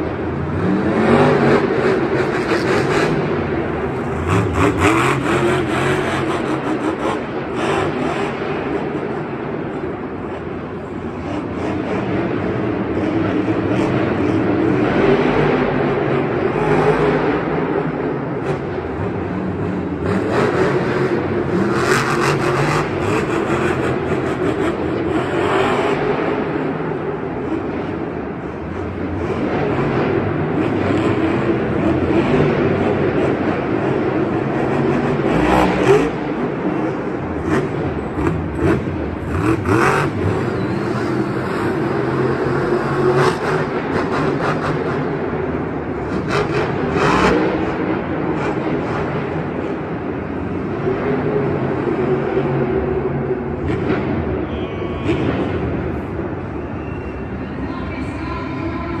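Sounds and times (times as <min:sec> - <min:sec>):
monster truck engine revving: 0:00.0 - 0:09.4, 0:10.0 - 0:54.3.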